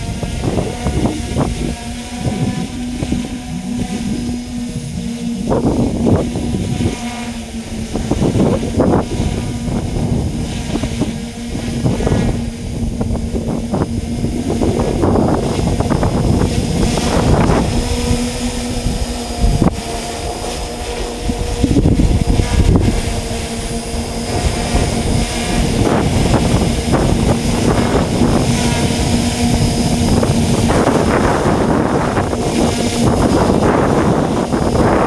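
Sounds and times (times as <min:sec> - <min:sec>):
drone hovering hum: 0:00.0 - 0:35.0
wind buffeting microphone: 0:00.0 - 0:35.0.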